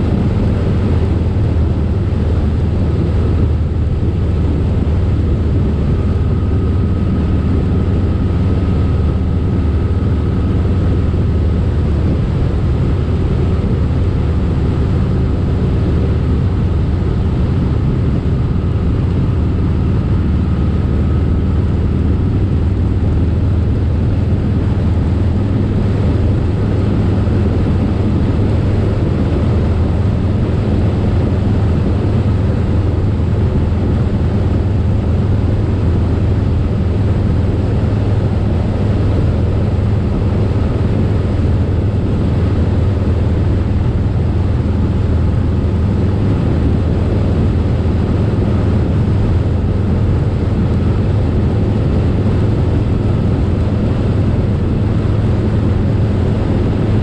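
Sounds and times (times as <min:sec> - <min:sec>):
wind and road rush: 0:00.0 - 0:57.0.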